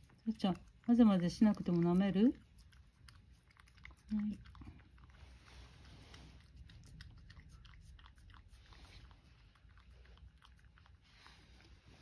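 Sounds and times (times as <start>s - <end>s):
cat licking: 0.0s - 12.0s.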